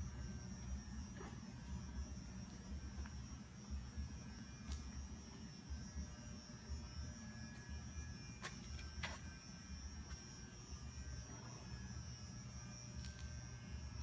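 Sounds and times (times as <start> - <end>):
faint high whine: 0.0 - 14.0
low background hum: 0.0 - 14.0.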